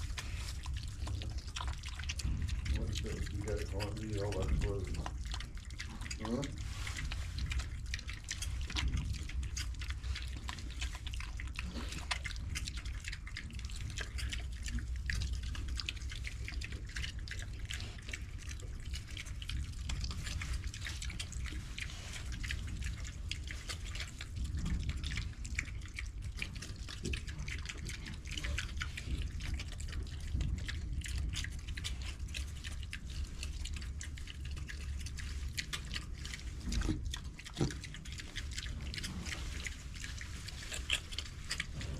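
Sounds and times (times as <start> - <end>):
piglets eating and drinking: 0.0 - 41.9.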